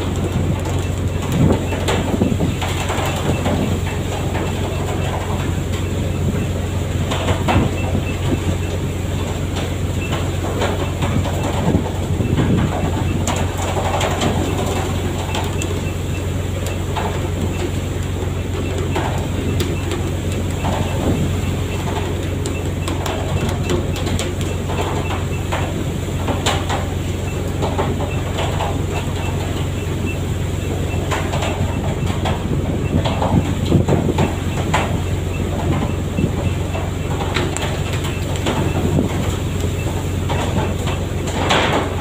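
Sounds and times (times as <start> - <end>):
knocks and clatter: 0.0 - 29.8, 30.8 - 42.0
boat engine droning: 0.0 - 42.0.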